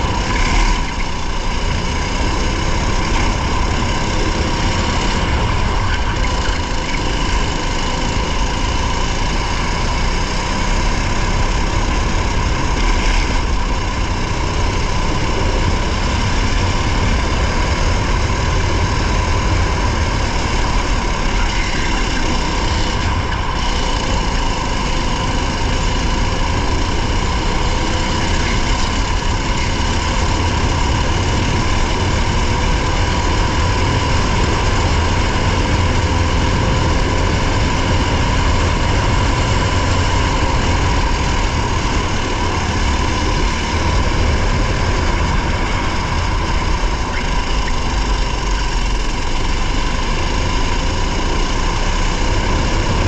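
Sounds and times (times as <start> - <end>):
race car engine at high pitch: 0.0 - 53.0
wind and road rumble: 0.0 - 53.0.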